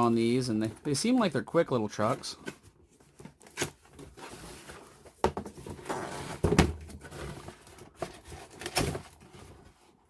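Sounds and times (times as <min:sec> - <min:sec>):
cardboard packaging rustling: 0:00.0 - 0:10.0.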